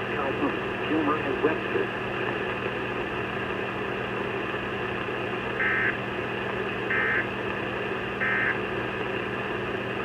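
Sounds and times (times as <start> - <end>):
radio receiver hum and hiss: 0.0 - 10.0.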